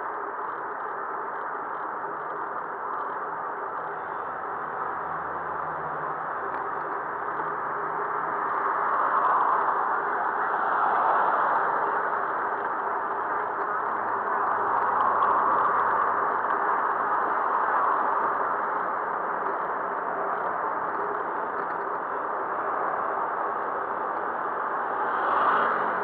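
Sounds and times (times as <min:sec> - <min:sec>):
wind: 0:00.0 - 0:26.0
road noise: 0:02.3 - 0:26.0.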